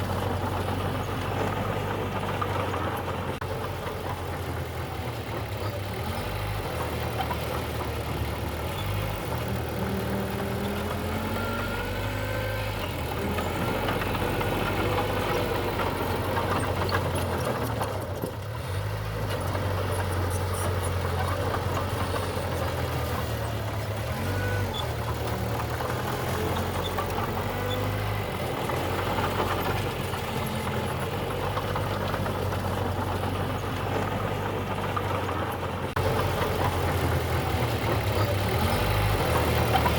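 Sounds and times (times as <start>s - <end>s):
diesel engine of earthmover: 0.0s - 39.9s.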